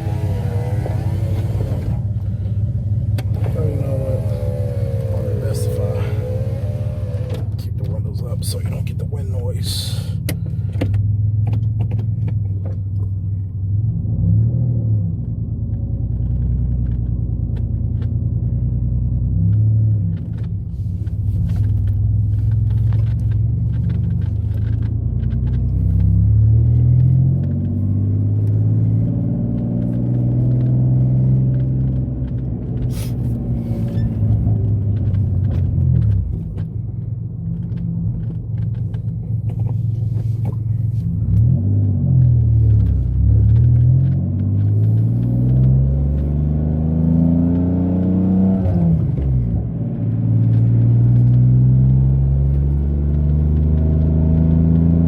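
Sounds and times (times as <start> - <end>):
car engine accelerating from cabin: 0.0 - 55.0.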